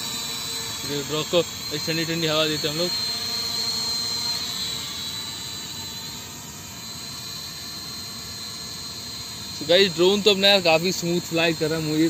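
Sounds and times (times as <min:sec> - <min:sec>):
quadcopter propellers whining: 0:00.0 - 0:12.0.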